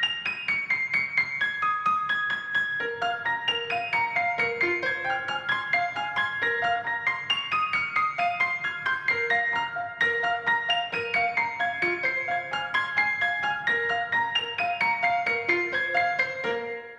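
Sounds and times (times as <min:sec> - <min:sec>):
light piano-like melody: 0:00.0 - 0:16.9.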